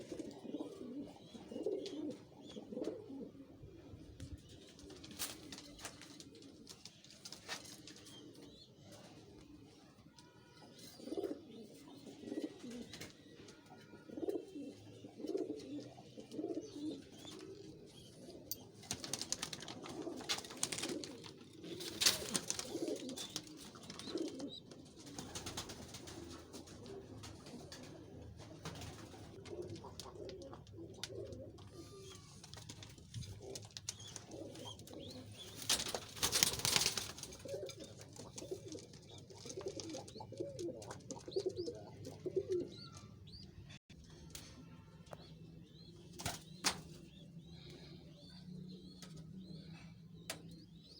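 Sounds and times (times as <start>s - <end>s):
pigeons cooing: 0.0s - 9.7s, 10.6s - 43.7s.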